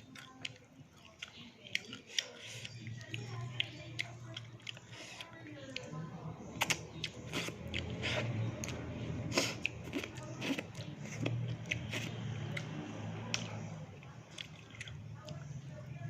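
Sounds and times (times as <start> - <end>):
chewing crispy fried fish: 0.0 - 16.0.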